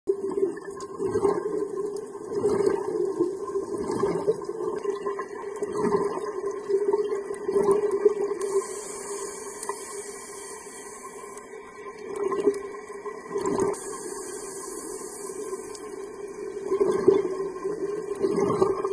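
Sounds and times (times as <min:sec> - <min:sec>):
underwater bubbles gurgling: 0:00.1 - 0:18.9.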